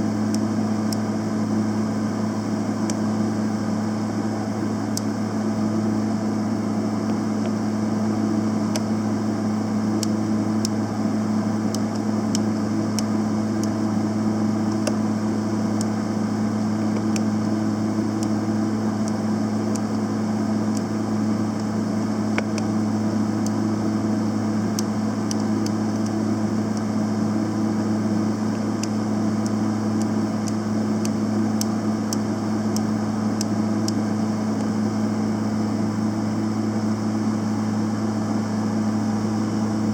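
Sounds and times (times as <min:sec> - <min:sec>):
welder humming: 0:00.0 - 0:39.9.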